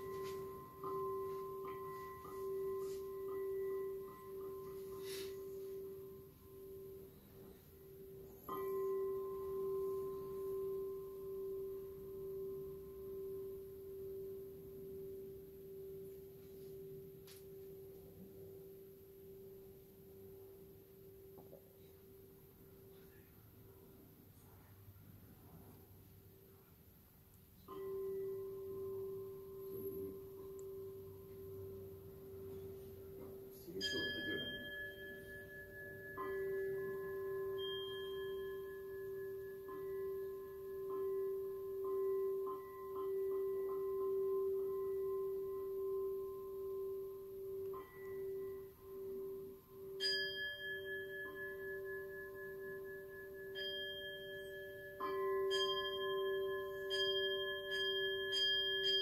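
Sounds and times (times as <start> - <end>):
bowl bell ringing: 0.0 - 24.7, 27.4 - 59.0.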